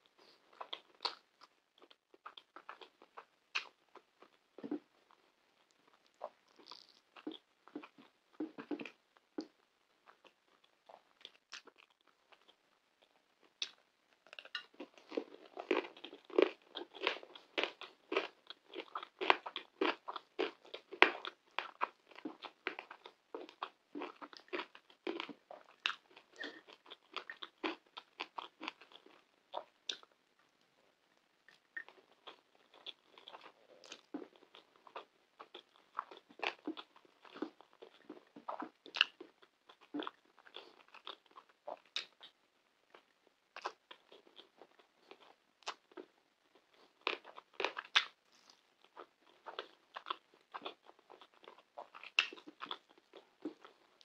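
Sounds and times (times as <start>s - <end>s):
chewing with wet mouth sounds: 0.0s - 30.1s, 31.4s - 54.0s.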